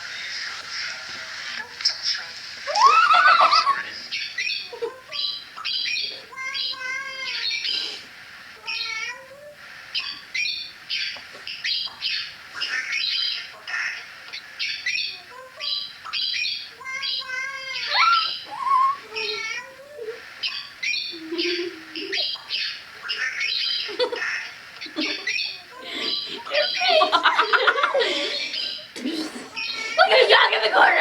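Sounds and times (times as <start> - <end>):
squawking animal calls: 0.0 - 8.0, 8.6 - 30.1.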